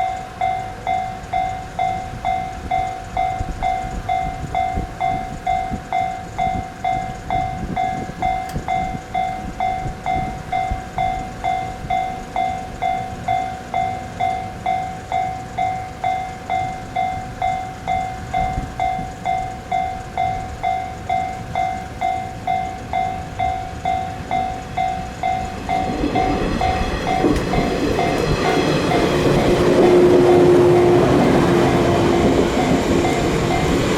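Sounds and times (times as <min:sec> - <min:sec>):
level crossing warning bell: 0:00.0 - 0:33.9
train rumbling: 0:00.0 - 0:33.9.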